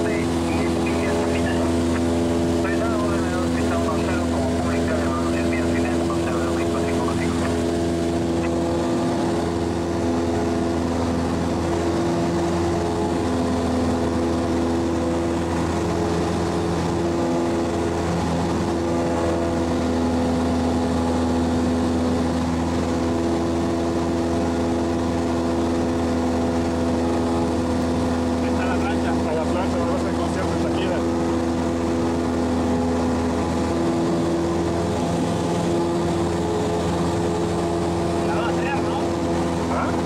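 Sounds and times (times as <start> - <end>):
light aircraft engine droning: 0.0 - 40.0.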